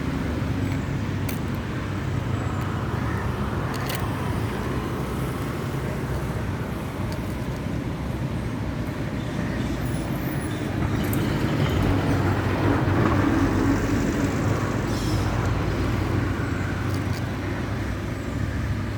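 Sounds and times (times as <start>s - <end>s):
road traffic noise: 0.0s - 18.9s.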